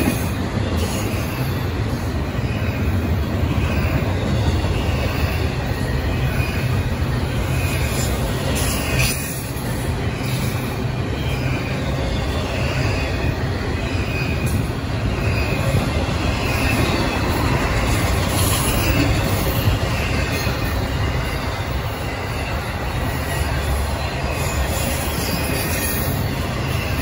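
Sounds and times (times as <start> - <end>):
train wheels rumbling on rail: 0.0 - 27.0
high wheel squeals: 0.7 - 27.0.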